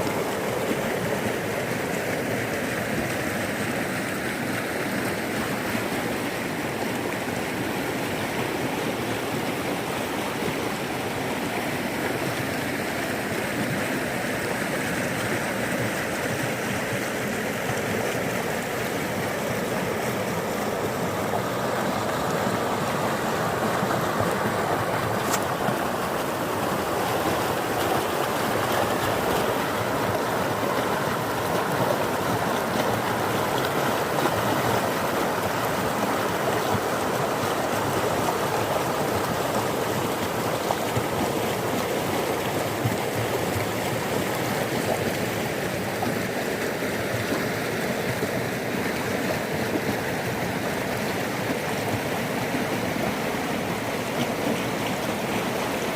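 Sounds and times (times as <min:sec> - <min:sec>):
floodwater rushing: 0:00.0 - 0:55.9.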